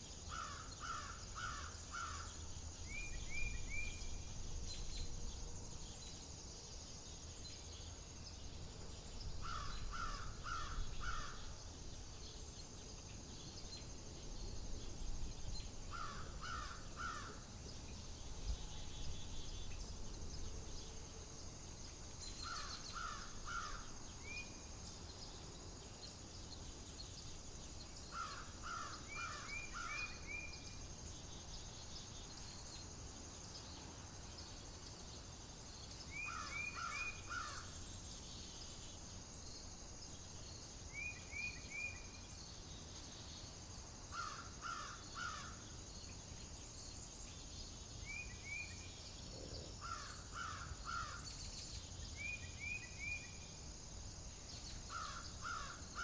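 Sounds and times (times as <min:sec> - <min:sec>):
steady high hiss: 0:00.0 - 0:56.0.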